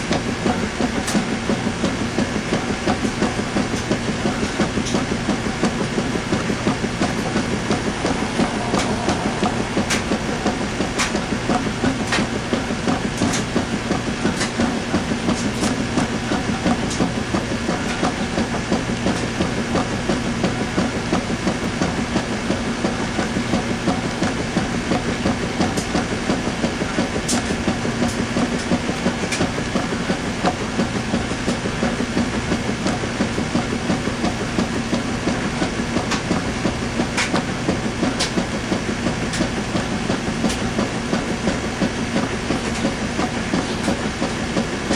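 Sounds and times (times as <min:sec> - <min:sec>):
washing machine motor hum: 0:00.0 - 0:44.9.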